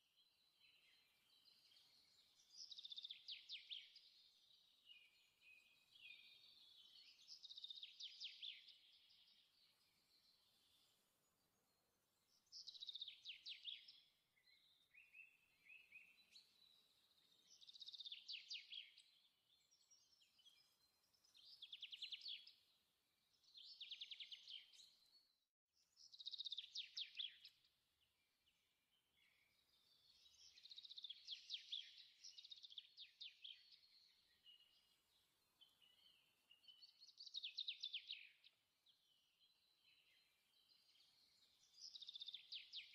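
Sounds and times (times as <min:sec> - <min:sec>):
songbird trilling chirps: 0:00.2 - 0:11.0, 0:11.6 - 0:25.2, 0:26.0 - 0:27.7, 0:28.4 - 0:42.9.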